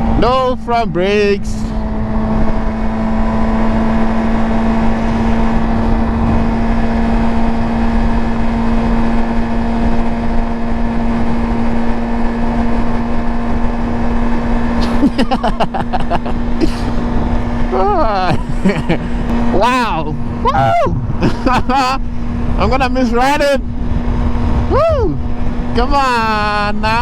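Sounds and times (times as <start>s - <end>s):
low wind rumble: 0.0s - 27.0s.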